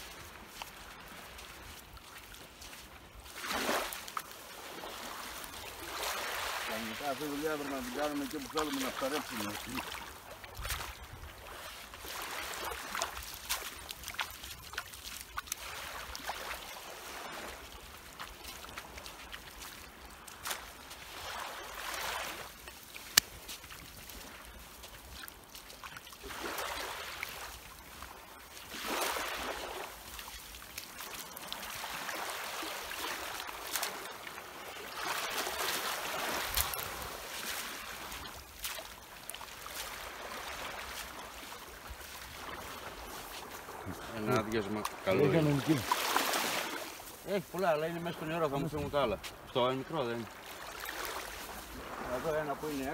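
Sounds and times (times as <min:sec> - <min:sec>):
seawater splashing and sloshing: 0:00.0 - 0:52.9.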